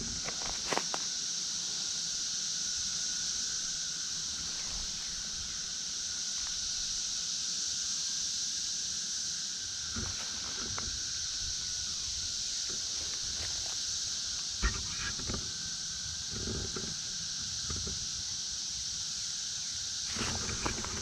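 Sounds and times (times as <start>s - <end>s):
cicadas chorusing: 0.0s - 21.0s.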